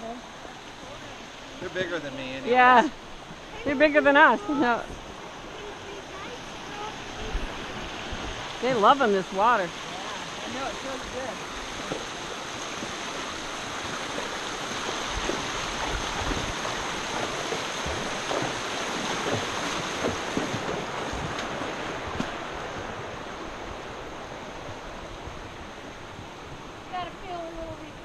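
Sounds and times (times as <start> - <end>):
creek water rushing over rocks: 0.0 - 28.0
horse hooves splashing: 0.0 - 28.0.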